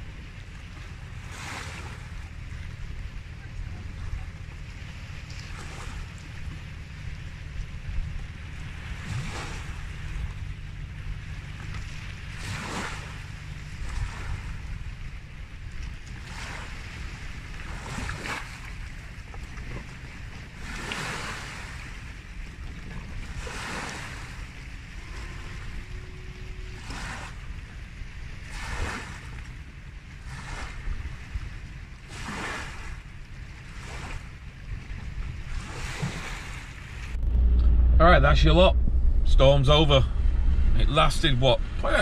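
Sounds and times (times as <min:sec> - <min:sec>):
waves washing ashore: 0:00.0 - 0:42.0
wind rumble on microphone: 0:00.0 - 0:42.0.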